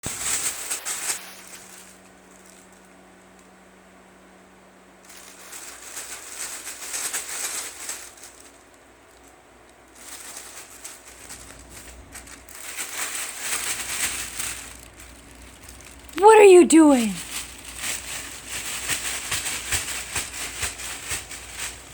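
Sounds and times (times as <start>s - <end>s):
rustling crinkling: 0.0s - 2.9s, 5.1s - 16.2s, 16.9s - 21.9s.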